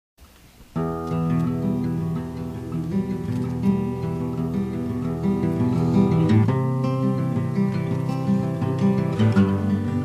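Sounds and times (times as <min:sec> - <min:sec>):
acoustic guitar chords: 0:00.2 - 0:10.0.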